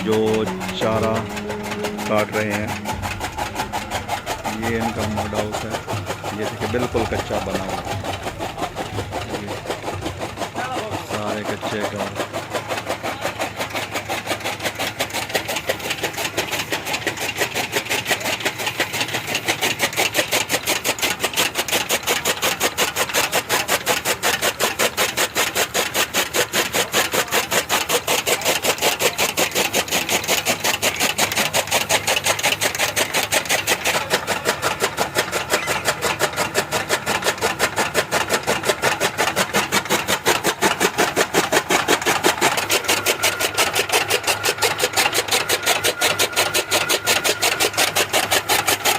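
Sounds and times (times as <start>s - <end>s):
fodder cutter running: 0.0s - 48.9s.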